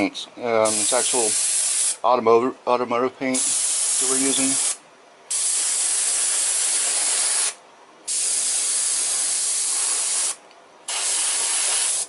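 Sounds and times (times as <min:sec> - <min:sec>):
airbrush spraying hiss: 0:00.6 - 0:02.0, 0:03.4 - 0:12.0.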